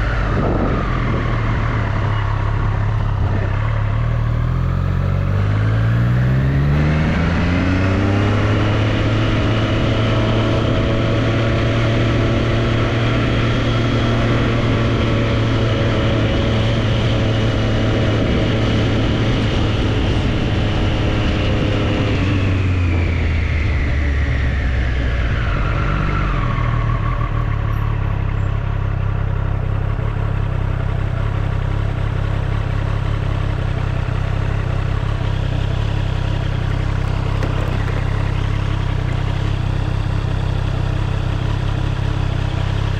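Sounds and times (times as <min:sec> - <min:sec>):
motorcycle engine revving: 0:00.0 - 0:25.0, 0:31.8 - 0:42.9.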